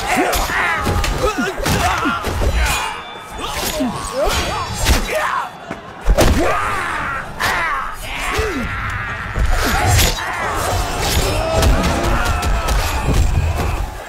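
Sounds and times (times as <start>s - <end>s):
soldiers shouting and grunting: 0.0s - 14.0s.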